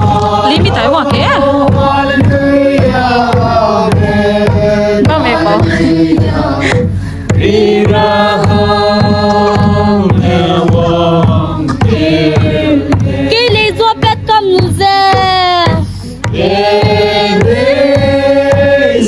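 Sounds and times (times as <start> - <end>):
steady drum beat: 0.0 - 19.0.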